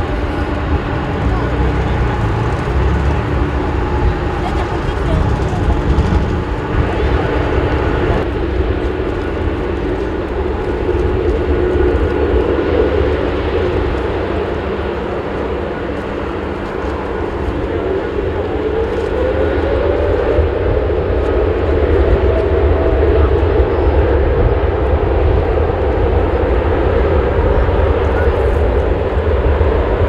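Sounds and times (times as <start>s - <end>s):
jet engines rumble and whine: 0.0s - 30.0s.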